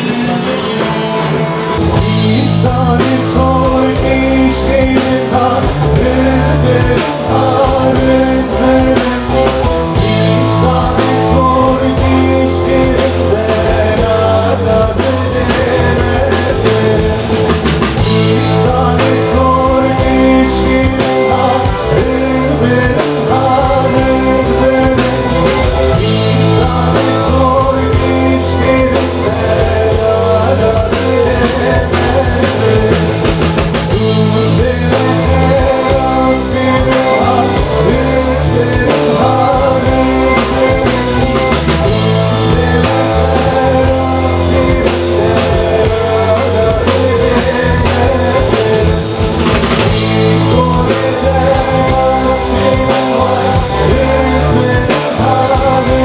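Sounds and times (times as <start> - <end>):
drum kit: 0.0 - 56.0
electric guitar: 0.0 - 56.0
men singing: 1.8 - 56.0.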